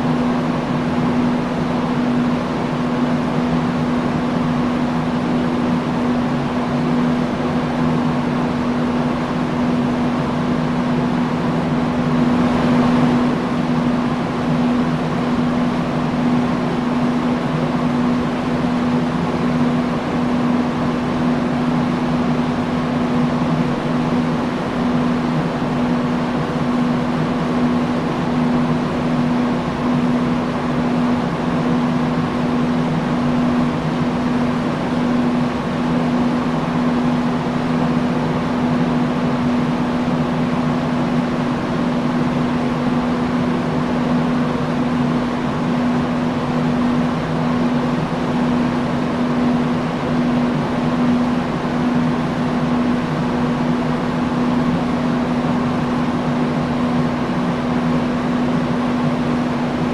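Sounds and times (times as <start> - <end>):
industrial fan running: 0.0 - 59.9.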